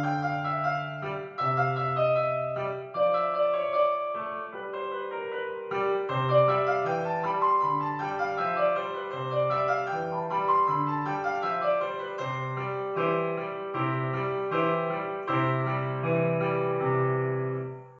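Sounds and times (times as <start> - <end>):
piano melody over low bass notes: 0.0 - 18.0.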